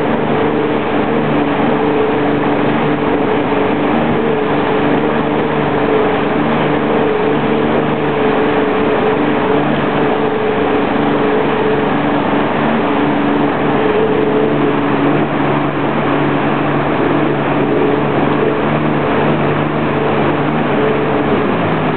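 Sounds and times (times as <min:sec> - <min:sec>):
jet ski engine running: 0:00.0 - 0:21.9.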